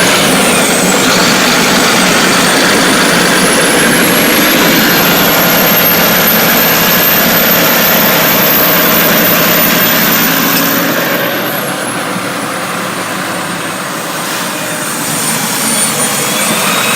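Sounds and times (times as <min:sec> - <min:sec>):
thin high whistle: 0:00.0 - 0:11.7, 0:14.2 - 0:16.9
diesel coach engine drone: 0:00.0 - 0:16.9.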